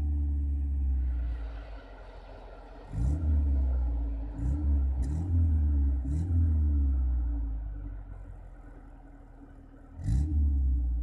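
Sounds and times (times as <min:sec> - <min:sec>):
car engine idling and revving: 0:00.0 - 0:11.0
exhaust crackle: 0:00.0 - 0:11.0.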